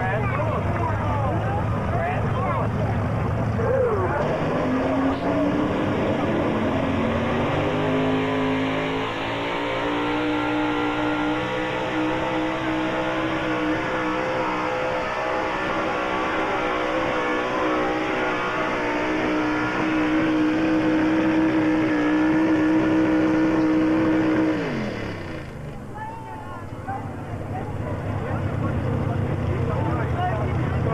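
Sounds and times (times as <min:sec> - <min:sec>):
truck engine at high revs: 0:00.0 - 0:26.0, 0:26.6 - 0:30.9.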